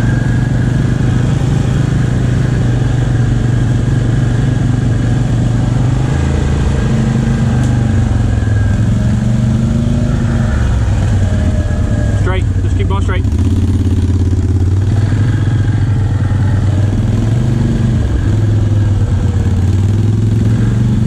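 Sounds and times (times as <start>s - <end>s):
atv engine droning: 0.0s - 21.0s.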